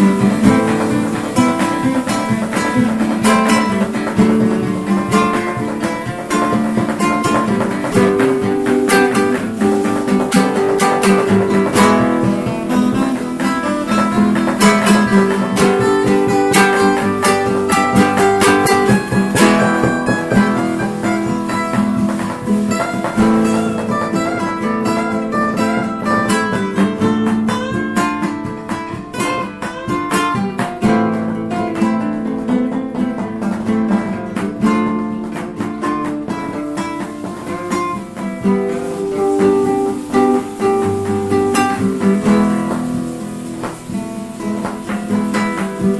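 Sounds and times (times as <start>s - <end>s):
guitars picking and strumming: 0.0s - 45.9s.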